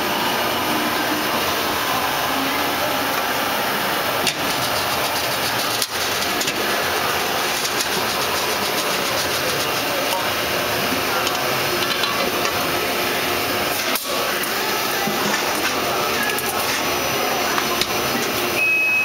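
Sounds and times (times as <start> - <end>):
industrial machinery din: 0.0 - 18.6.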